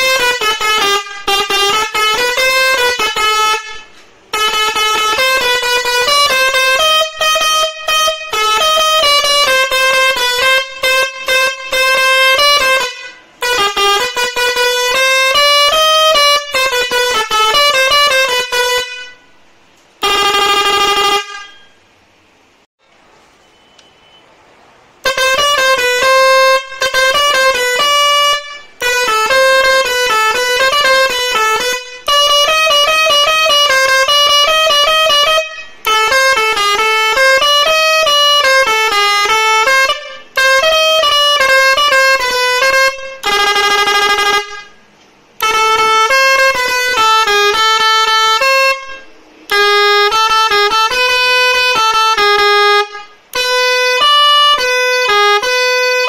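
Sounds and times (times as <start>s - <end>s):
musical air horn melodies: 0.0s - 22.2s, 25.0s - 56.0s.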